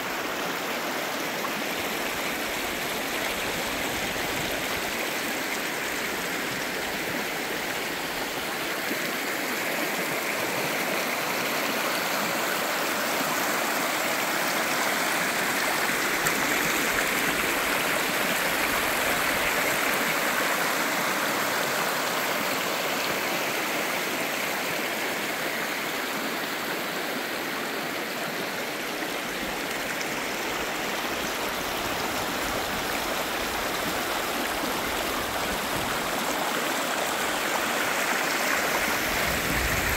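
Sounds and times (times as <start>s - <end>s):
creek water rushing over stones: 0.0s - 39.9s.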